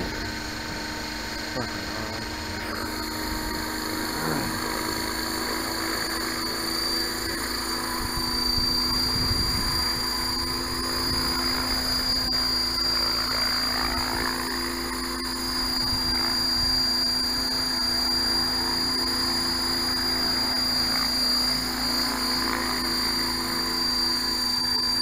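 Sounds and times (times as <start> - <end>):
model helicopter motor and rotor: 0.0 - 25.0.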